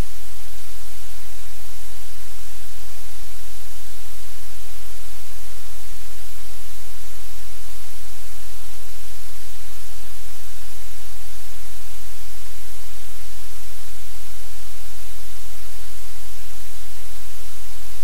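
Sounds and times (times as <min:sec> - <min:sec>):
low electrical hum: 0:00.0 - 0:18.0
static hiss: 0:00.0 - 0:18.0.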